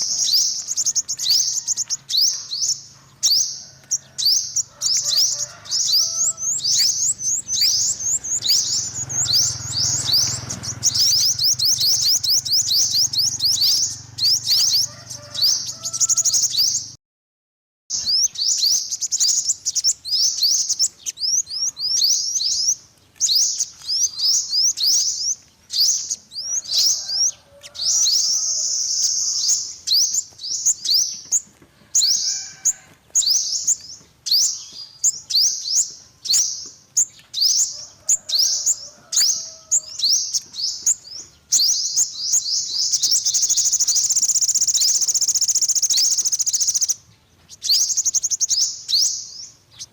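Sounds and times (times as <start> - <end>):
sunbird singing high chirps: 0.0 - 17.0, 17.9 - 49.9.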